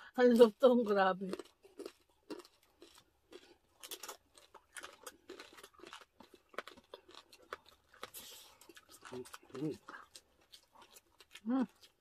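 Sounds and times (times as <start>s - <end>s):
crunching crispy skin: 0.4s - 12.0s.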